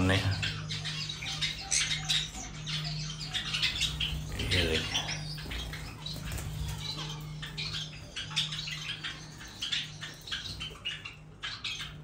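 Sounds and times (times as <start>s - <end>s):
finches chirping: 0.0s - 12.0s.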